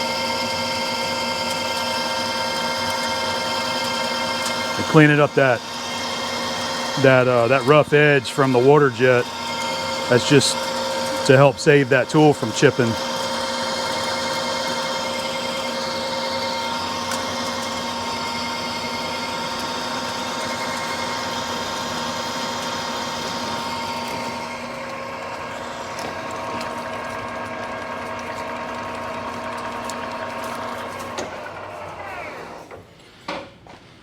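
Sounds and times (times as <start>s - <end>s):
lathe machine hum: 0.0s - 32.8s.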